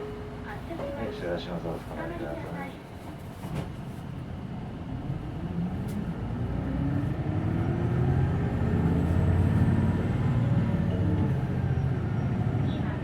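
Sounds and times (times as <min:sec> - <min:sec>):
bus engine and drive noise: 0:00.0 - 0:13.0.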